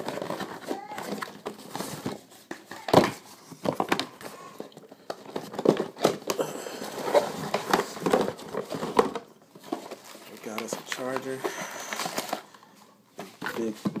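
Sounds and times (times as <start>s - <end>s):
cardboard and paper rustling: 0.0s - 14.0s.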